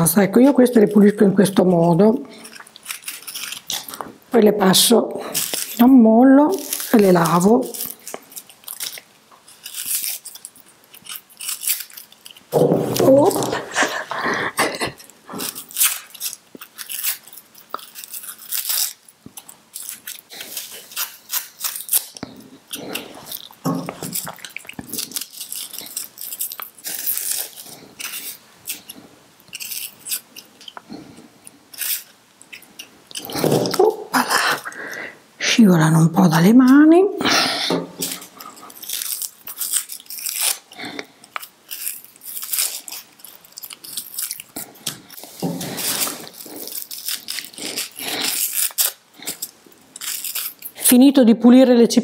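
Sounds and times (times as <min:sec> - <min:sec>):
knife scraping onion skins: 0:00.0 - 0:35.0, 0:37.6 - 0:51.2.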